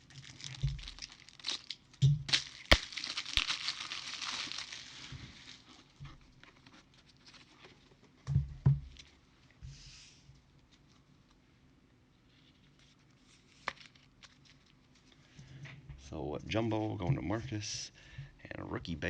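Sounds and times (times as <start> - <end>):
plastic sleeves rustling: 0.0 - 17.9.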